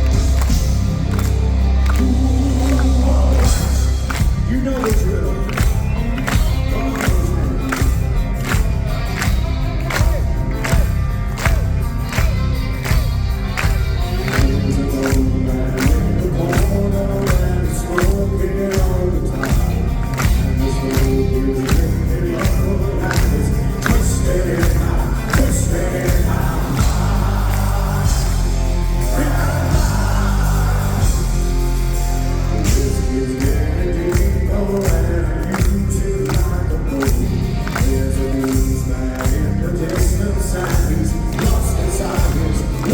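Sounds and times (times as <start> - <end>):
distorted guitars: 0.0 - 42.9
heavy metal band playing live: 0.0 - 42.9
loud drums: 0.0 - 42.9
person singing: 0.0 - 42.9.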